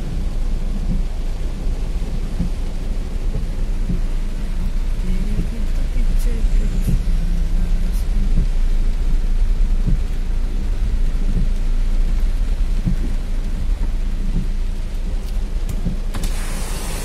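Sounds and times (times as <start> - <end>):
heavy rain drumming on car roof: 0.0 - 17.0
hiss of rain: 0.0 - 17.0.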